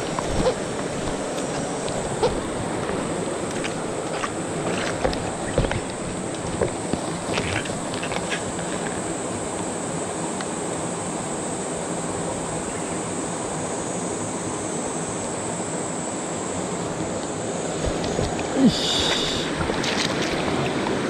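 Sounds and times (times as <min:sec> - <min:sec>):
river current rushing: 0:00.0 - 0:12.6, 0:16.2 - 0:21.0.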